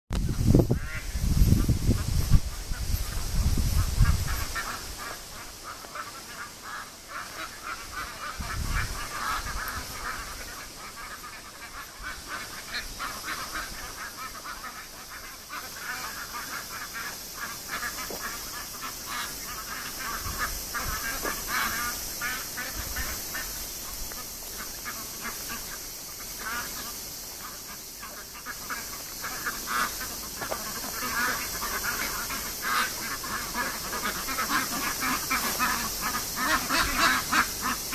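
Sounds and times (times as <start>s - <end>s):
ducks quacking: 0.2s - 37.9s.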